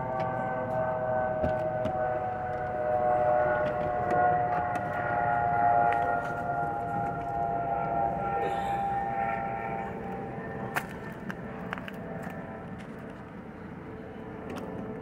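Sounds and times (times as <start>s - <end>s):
distant siren chord: 0.0s - 15.0s.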